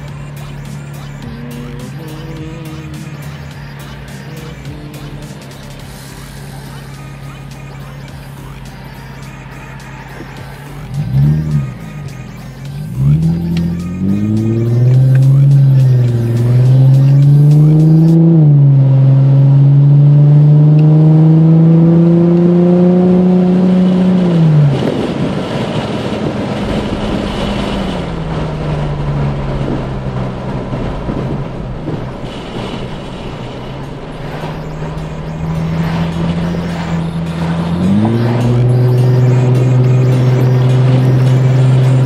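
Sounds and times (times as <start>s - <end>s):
car engine accelerating: 0.0s - 42.0s
road noise: 0.0s - 42.0s.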